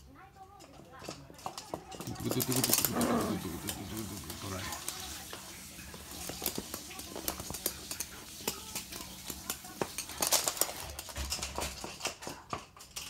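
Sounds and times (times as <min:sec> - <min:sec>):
dog claws clicking on floor: 0:00.3 - 0:13.0.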